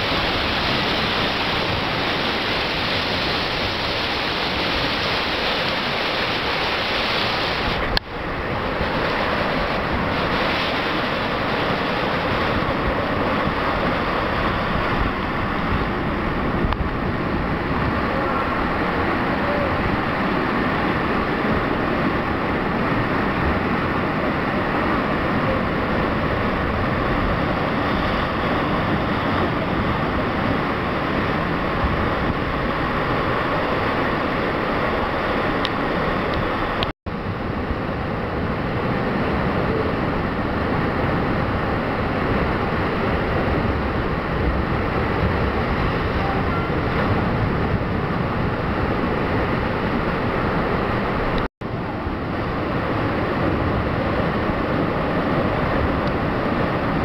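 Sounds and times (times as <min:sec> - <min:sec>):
ocean surge crashing on rocks: 0:00.0 - 0:57.0.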